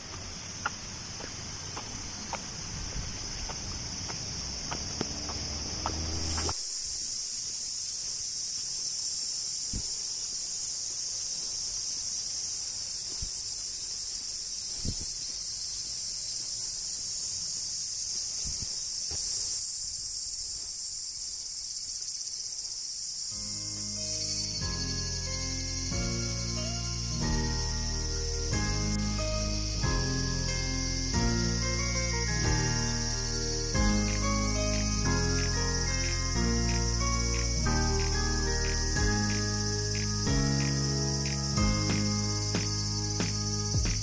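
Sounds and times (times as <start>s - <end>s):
insects shrilling: 0.0s - 44.0s.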